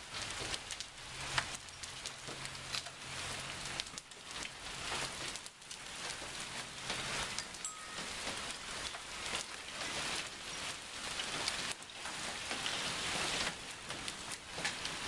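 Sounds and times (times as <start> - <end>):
rain hiss: 0.0 - 15.0
raindrops ticking: 0.0 - 15.0.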